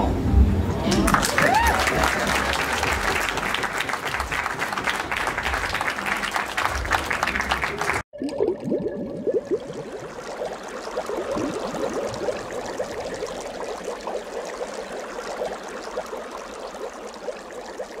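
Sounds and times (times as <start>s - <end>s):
water bubbles popping and gurgling: 1.6s - 18.0s.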